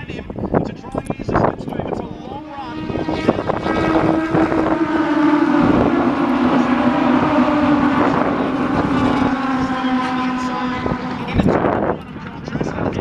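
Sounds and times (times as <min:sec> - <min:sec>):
racing car engines high revs: 0:01.7 - 0:13.0.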